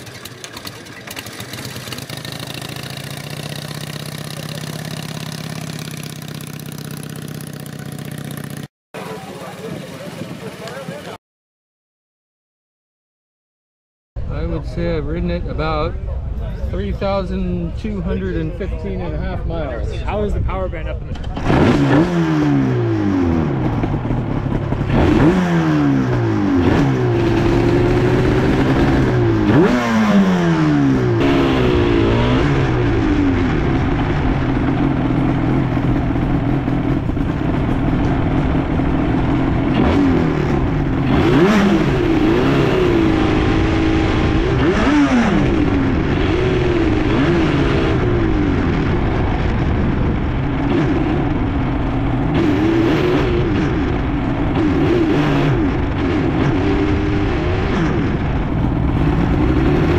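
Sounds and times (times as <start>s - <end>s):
two-stroke motorcycle engine revving: 0.0s - 10.8s, 21.2s - 59.9s.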